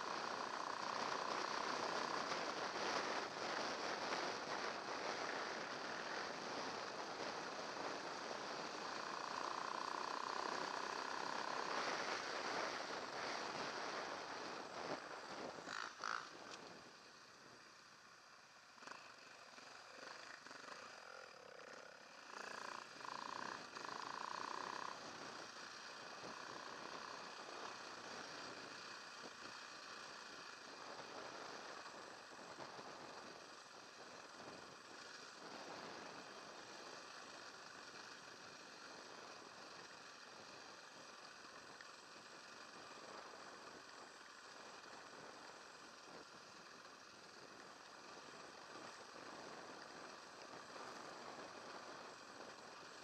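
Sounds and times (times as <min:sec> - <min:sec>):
off-road motorcycle engine: 0:00.0 - 0:53.0.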